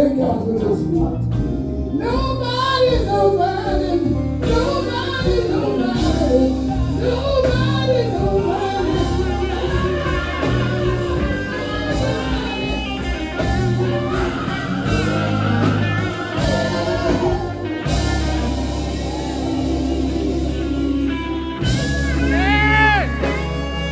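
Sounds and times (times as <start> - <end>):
electric guitar: 0.0 - 23.9
low bass notes: 0.0 - 23.9.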